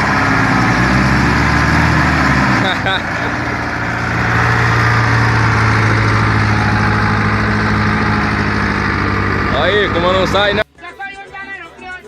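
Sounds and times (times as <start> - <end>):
off-road vehicle engine running: 0.0 - 10.6.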